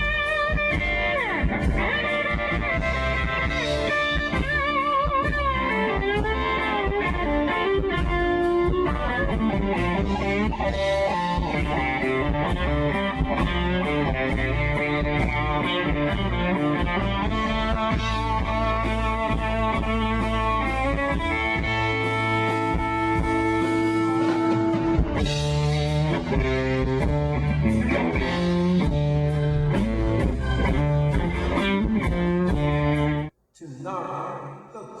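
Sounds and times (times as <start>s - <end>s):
bass guitar: 0.0s - 33.3s
electric guitar: 0.0s - 33.3s
live rock band playing: 0.0s - 33.3s.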